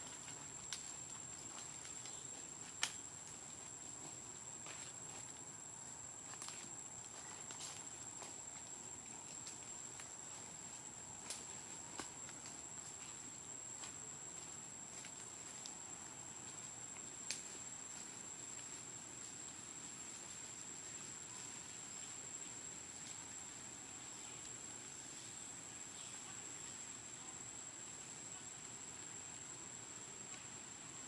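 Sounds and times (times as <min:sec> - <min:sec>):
faint hiss: 0:00.0 - 0:31.0.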